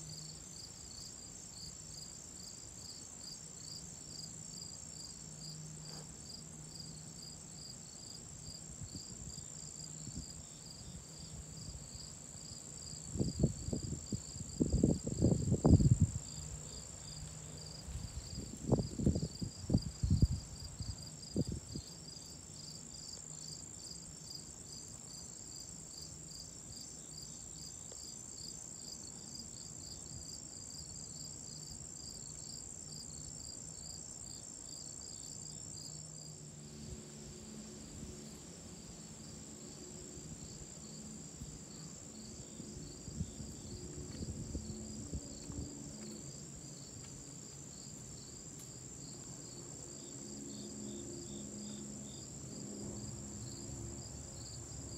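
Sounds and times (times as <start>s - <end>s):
crickets and insects chirping: 0.0s - 54.9s.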